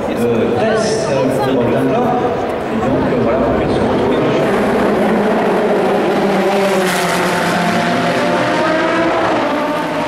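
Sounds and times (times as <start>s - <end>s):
racing car engines at speed: 0.0s - 10.0s.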